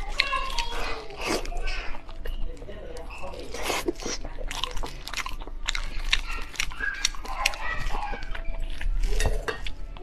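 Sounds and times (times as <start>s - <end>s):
person chewing with lip smacks: 0.0s - 9.7s.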